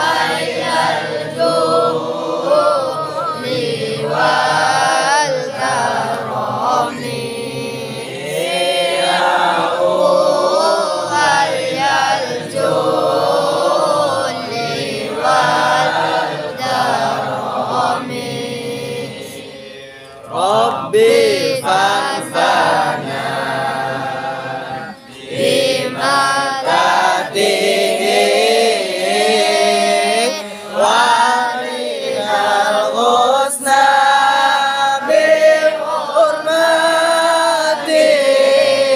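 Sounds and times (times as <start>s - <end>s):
group chanting devotional verses: 0.0s - 38.9s.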